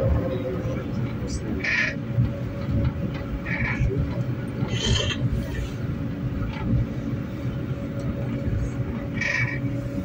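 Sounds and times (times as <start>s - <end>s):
mid-pitched hum: 0.0s - 10.0s
tram rumble: 0.0s - 10.0s.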